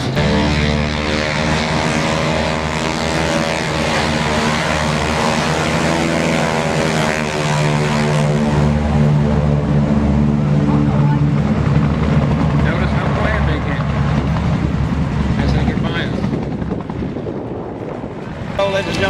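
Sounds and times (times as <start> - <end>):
propeller airplane flying by: 0.0 - 19.0.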